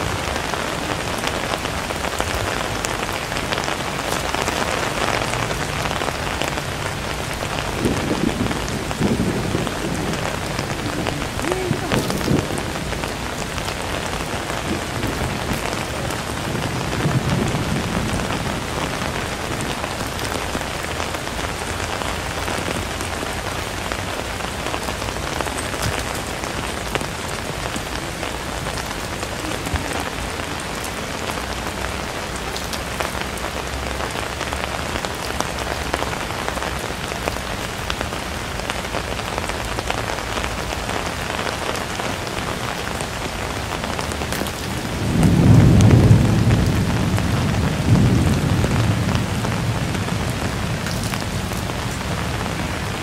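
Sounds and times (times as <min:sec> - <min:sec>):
raindrop ticks: 0:00.0 - 0:52.8
steady rain on street: 0:00.0 - 0:53.0.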